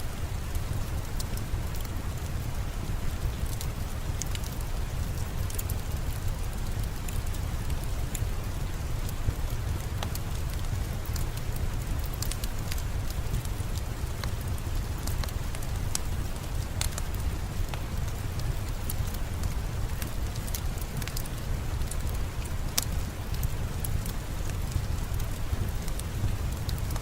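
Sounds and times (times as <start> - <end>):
steady rainfall: 0.0 - 27.0
wood fire crackling and popping: 0.1 - 27.0.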